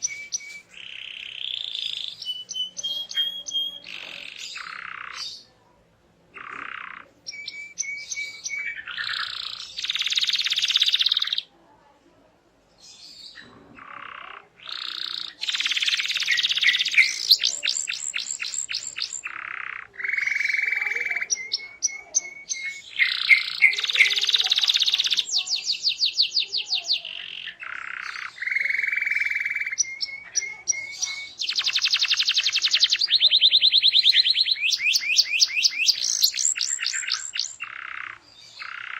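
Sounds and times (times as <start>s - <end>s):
canary singing trills: 0.0s - 11.6s, 12.7s - 38.9s.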